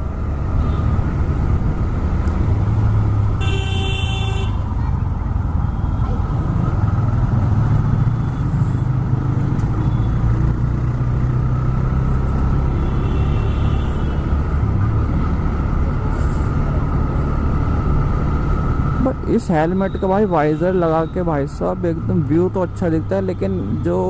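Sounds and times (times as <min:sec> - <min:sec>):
road and wind noise: 0:00.0 - 0:24.0
motorcycle engine cruising: 0:04.5 - 0:24.0.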